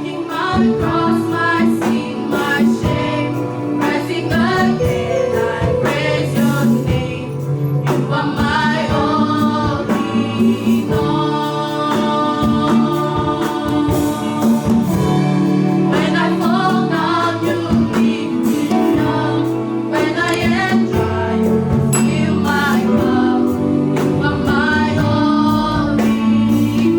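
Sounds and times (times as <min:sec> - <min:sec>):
band with bass and drums: 0:00.0 - 0:26.9
group singing gospel song: 0:00.0 - 0:26.9.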